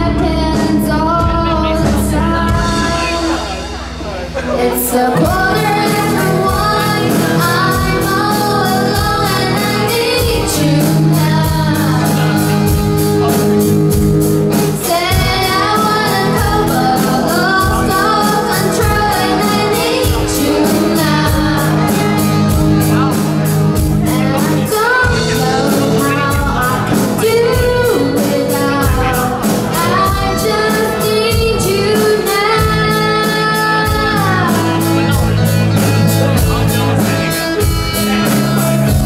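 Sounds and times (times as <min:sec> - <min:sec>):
woman singing lead vocal: 0:00.0 - 0:03.8, 0:04.4 - 0:13.6, 0:14.5 - 0:36.6
bass guitar: 0:00.0 - 0:39.0
drum kit beat: 0:00.0 - 0:39.0
electric guitars: 0:00.0 - 0:39.0.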